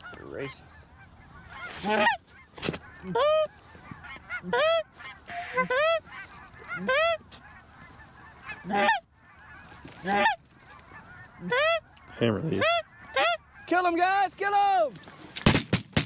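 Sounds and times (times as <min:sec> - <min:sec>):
faint honks and clucks: 0:00.0 - 0:13.9
geese honking: 0:00.0 - 0:15.4.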